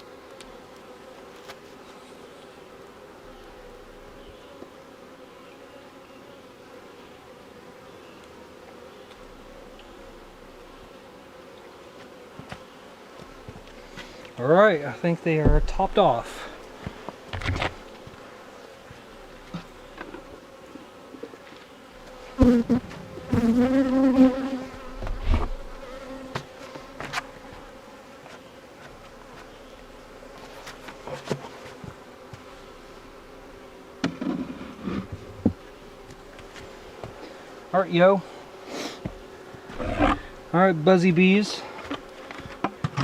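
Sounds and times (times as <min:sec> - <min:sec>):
bees humming: 0:00.0 - 0:43.0.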